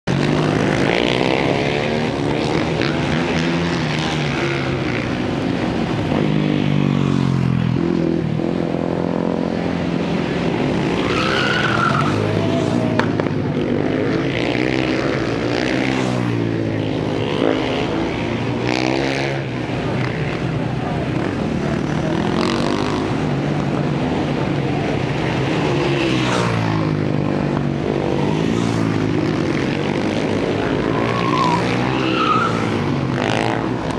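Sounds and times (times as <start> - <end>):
racing motorcycle engines revving: 0.0 - 33.9.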